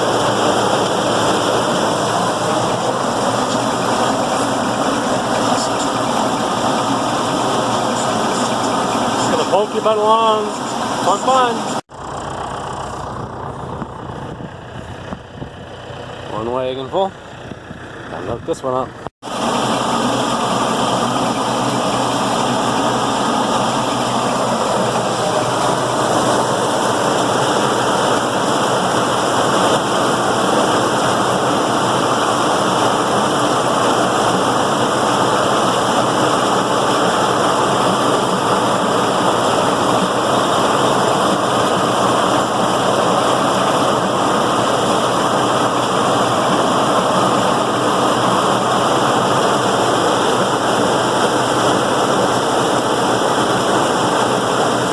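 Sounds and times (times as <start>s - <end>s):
tractor pulling corn picker: 0.0s - 54.9s.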